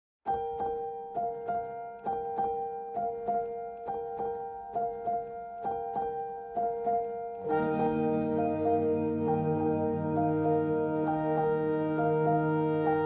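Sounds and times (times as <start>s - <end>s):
gentle keyboard melody: 0.3s - 13.0s.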